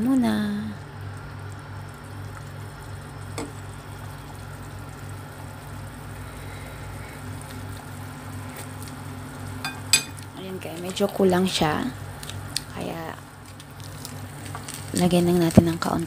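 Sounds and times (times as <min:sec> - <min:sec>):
pot of broth boiling: 0:00.1 - 0:16.0.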